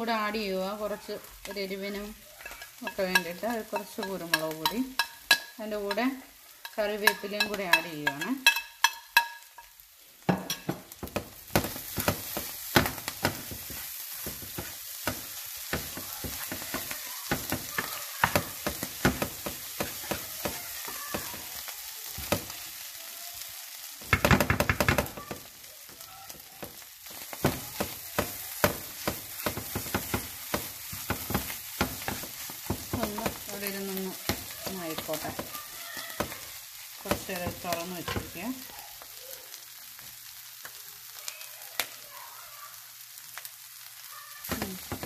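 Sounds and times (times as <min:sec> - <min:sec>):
clam meat sizzling in oil: 0:00.0 - 0:45.0.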